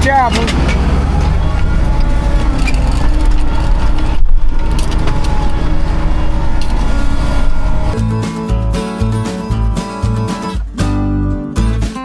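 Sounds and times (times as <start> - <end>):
diesel engine rumbling: 0.0 - 11.4.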